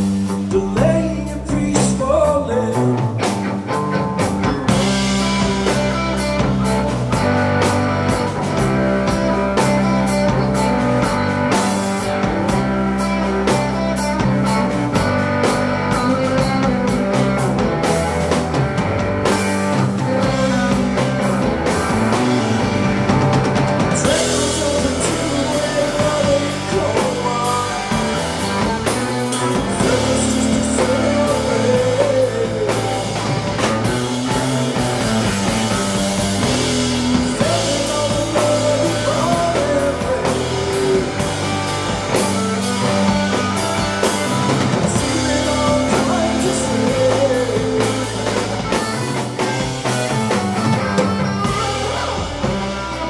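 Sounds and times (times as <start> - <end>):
drum kit: 0.0 - 53.0
guitars and bass: 0.0 - 53.0
person singing: 0.2 - 4.0, 4.7 - 53.0.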